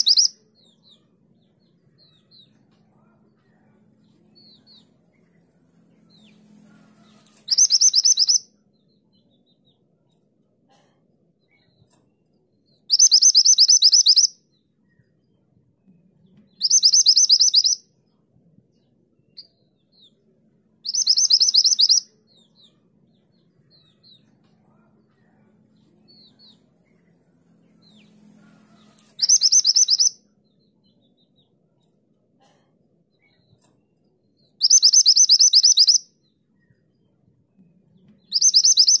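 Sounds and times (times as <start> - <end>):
faint bird chirps: 0.0 - 39.0.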